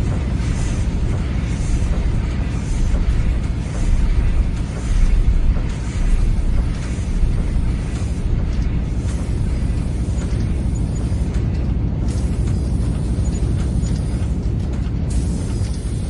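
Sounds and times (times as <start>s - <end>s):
factory machinery rumble: 0.0s - 16.0s.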